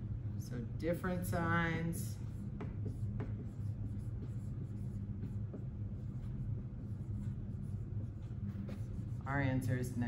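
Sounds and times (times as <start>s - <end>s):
steady low hum: 0.0s - 10.0s
marker scratching on whiteboard: 1.4s - 10.0s.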